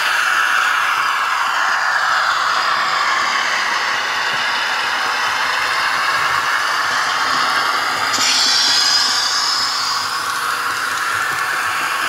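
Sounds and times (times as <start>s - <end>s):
high hiss: 0.0s - 12.0s
model trains rolling on track: 0.0s - 12.0s.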